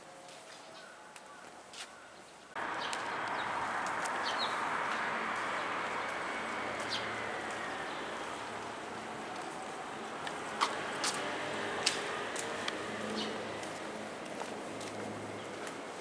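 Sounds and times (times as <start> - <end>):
electric train rolling past: 2.6 - 16.0.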